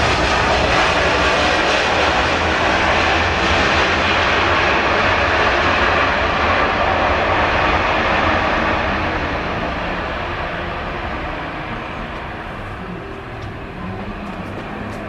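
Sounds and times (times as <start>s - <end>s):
jet airliner passing: 0.0s - 15.0s.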